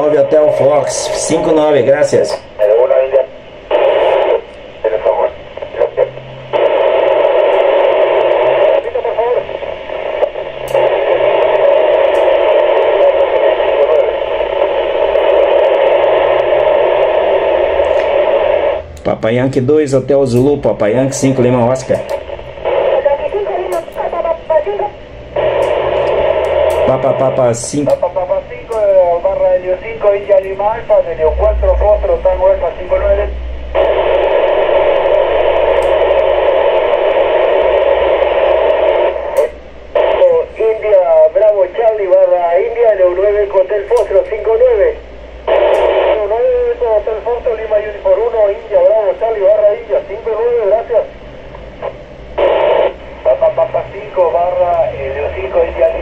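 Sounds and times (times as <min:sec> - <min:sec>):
faint garbled radio signal: 0:00.0 - 0:56.0
radio hiss: 0:00.0 - 0:56.0.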